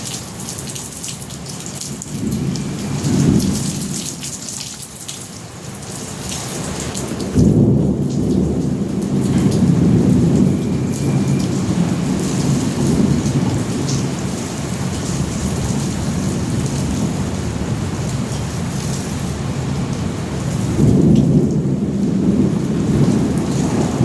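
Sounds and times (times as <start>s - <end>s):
rain hissing and pattering: 0.0s - 24.0s
thunder rumble: 1.9s - 4.9s, 7.0s - 24.0s.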